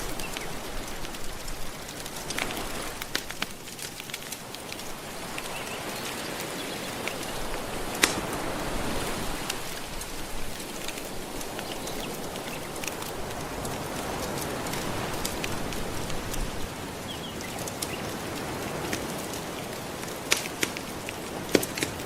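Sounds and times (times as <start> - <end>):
ocean waves washing: 0.0 - 22.0
wood fire crackling: 0.0 - 22.0.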